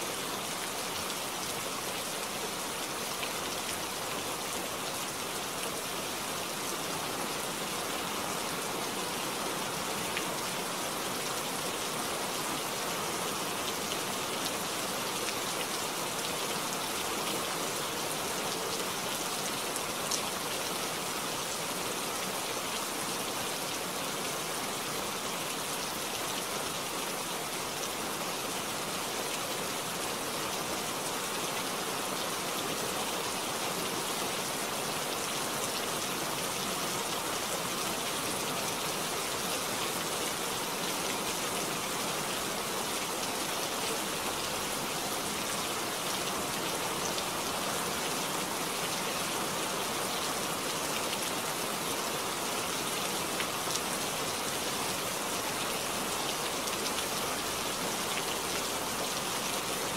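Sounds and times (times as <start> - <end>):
rain splashing on wet road: 0.0 - 59.9.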